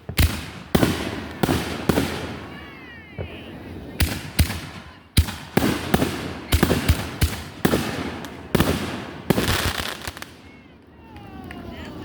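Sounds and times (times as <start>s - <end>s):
firework bangs with hissing crackle: 0.0s - 10.5s.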